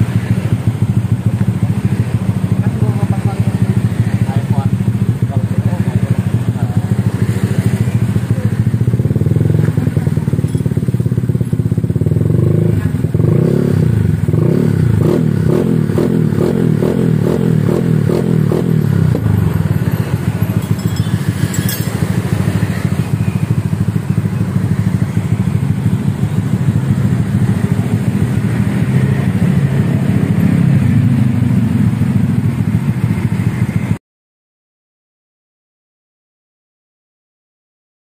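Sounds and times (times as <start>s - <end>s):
scooter engine running: 0.0s - 34.0s.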